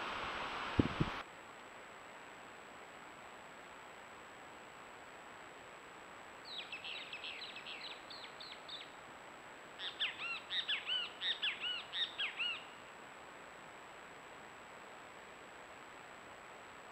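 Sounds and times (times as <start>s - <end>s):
steady hiss: 0.0s - 16.9s.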